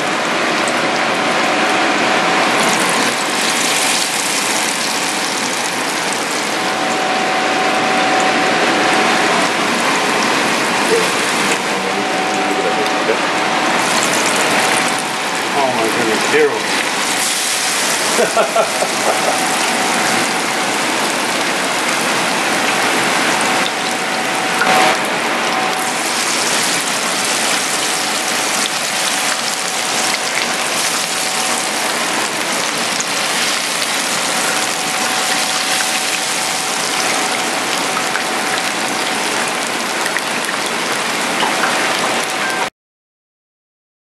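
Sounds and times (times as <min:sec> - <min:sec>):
batter frying in hot oil: 0:00.0 - 0:42.7.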